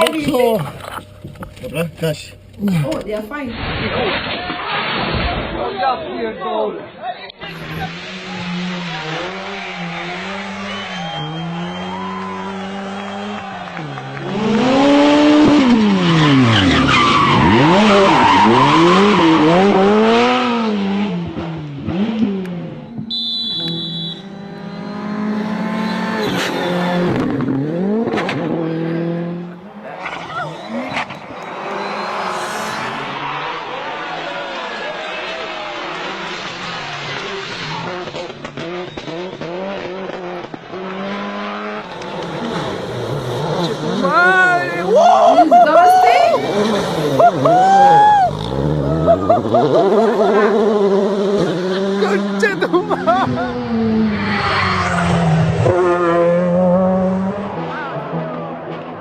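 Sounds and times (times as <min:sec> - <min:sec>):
road and tyre noise: 0:00.0 - 0:59.0
rally car engine revving: 0:07.4 - 0:45.6, 0:46.2 - 0:59.0.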